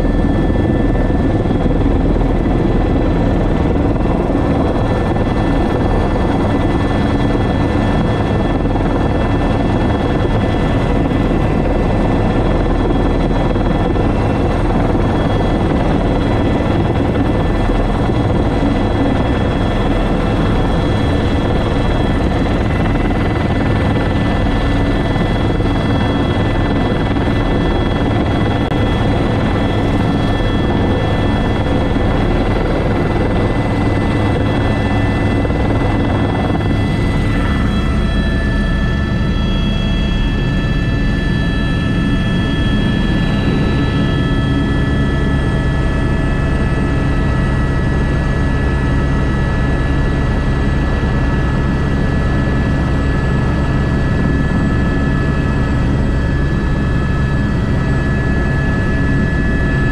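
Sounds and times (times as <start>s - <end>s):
helicopter rotor and turbine: 0.0s - 59.9s.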